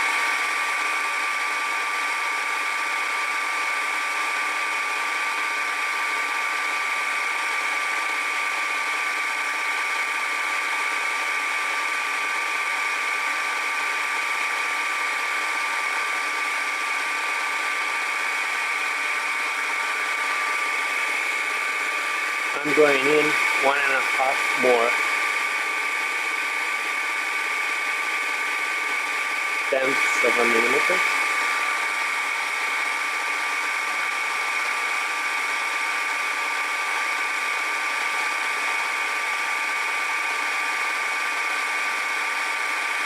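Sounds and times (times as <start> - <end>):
milling machine spindle whine: 0.0 - 43.0.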